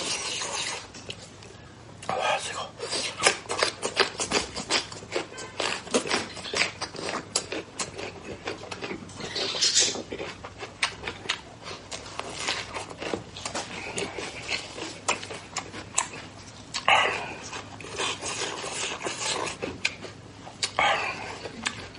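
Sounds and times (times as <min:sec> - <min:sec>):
wet chewing and lip-smacking: 0:00.0 - 0:21.9.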